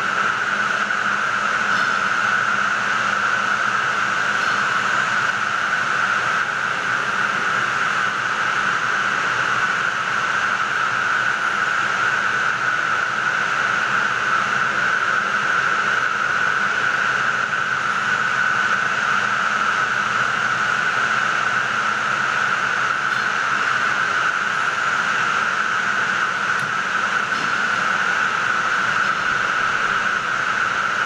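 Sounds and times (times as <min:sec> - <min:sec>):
looms hissing and whirring: 0:00.0 - 0:31.0.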